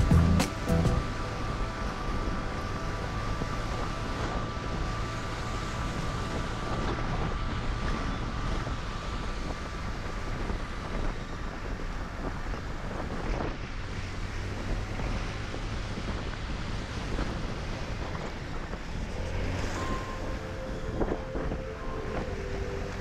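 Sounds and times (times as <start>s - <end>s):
scooter engine humming: 0.0s - 23.0s
wind buffeting microphone: 1.5s - 23.0s.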